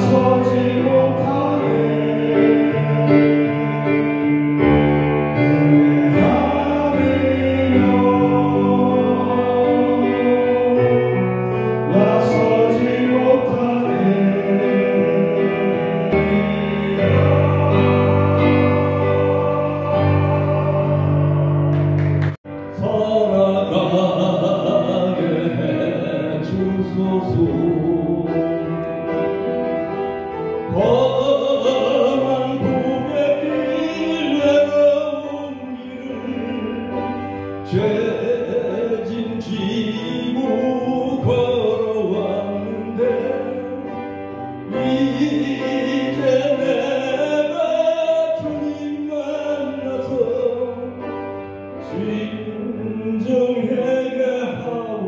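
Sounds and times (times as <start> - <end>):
instrumental accompaniment: 0.0 - 55.0
man singing a hymn: 0.0 - 55.0.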